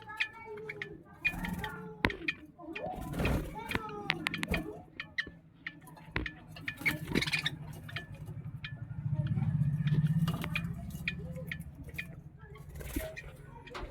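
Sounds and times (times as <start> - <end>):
small clicks and scratches: 0.0 - 8.4, 10.0 - 13.9
budgies chirping: 0.0 - 13.9.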